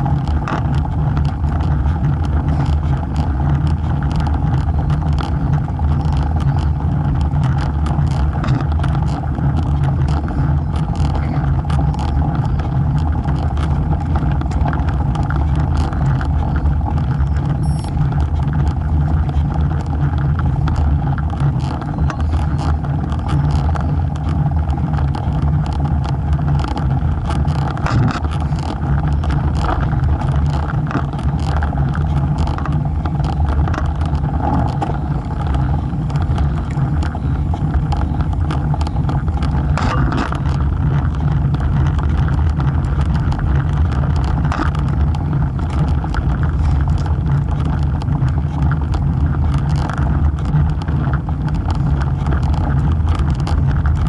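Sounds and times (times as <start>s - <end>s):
bike tyre rolling on asphalt: 0.0s - 54.0s
small ticks and rattles: 0.0s - 54.0s
wind rumble on microphone: 0.0s - 54.0s.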